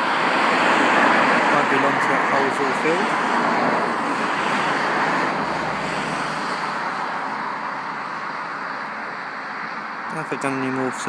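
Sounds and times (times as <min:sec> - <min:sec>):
passing vehicle rush: 0:00.0 - 0:11.0.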